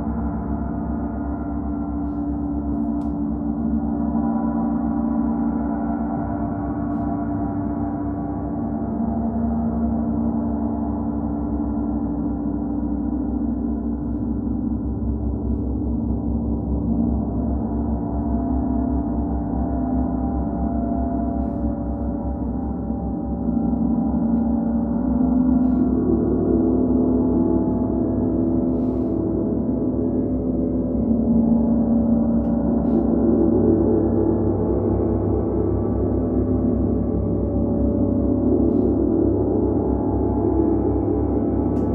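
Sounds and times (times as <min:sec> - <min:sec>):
gong drone: 0:00.0 - 0:41.9.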